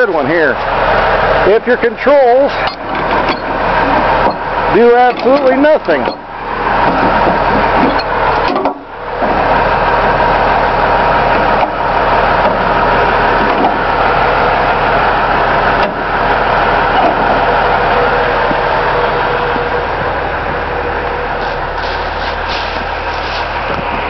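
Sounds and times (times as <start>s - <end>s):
garbage truck running: 0.0s - 24.0s.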